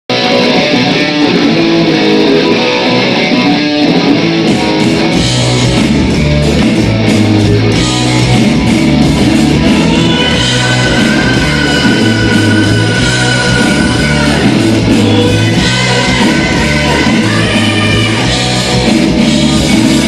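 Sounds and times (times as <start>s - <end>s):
bass guitar: 0.0s - 20.0s
drums: 0.1s - 20.0s
electric guitar: 0.1s - 20.0s.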